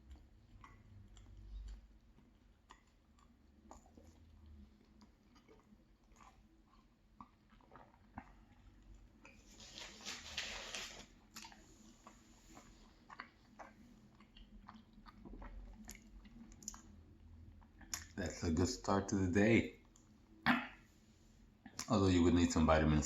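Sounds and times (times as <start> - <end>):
chewing soft pastry: 0.0 - 22.2.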